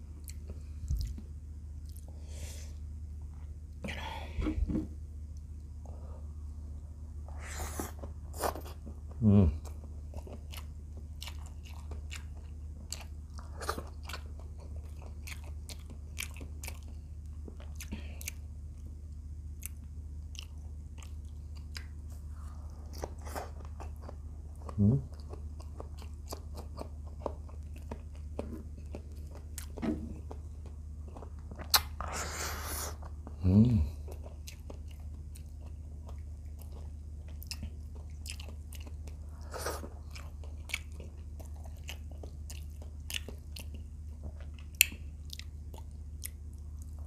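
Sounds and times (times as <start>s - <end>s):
man chewing food: 0.0s - 4.0s, 5.3s - 47.0s.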